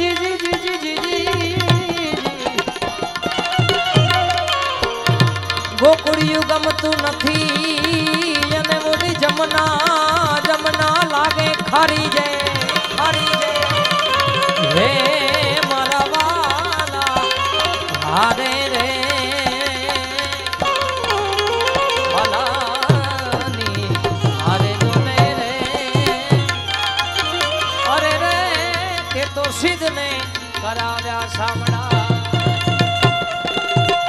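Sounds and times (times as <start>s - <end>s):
tabla playing rhythm: 0.0s - 34.0s.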